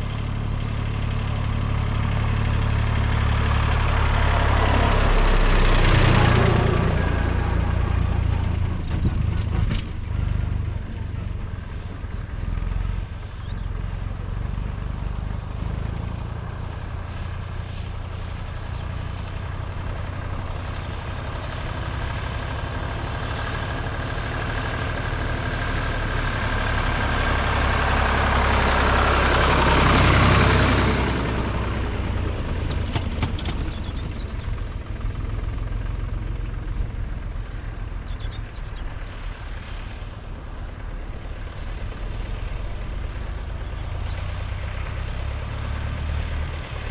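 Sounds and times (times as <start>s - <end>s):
tractor diesel engines running: 0.0s - 46.9s
tractor passing: 0.0s - 46.9s.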